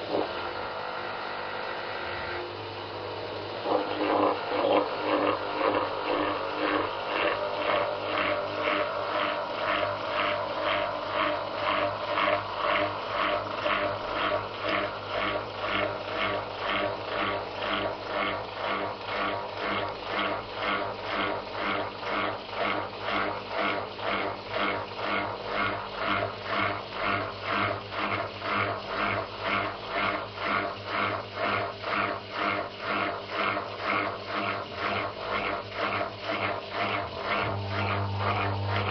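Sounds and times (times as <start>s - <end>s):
washing machine pulsing: 0.0s - 38.9s.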